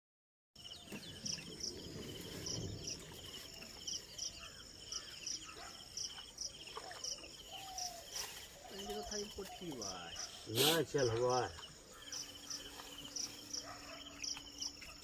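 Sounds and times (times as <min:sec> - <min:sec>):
insects chirping in trills: 0:00.6 - 0:15.0.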